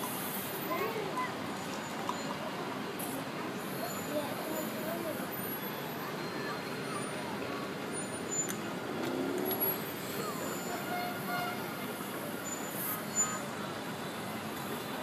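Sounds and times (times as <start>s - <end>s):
city street traffic: 0.0s - 15.0s.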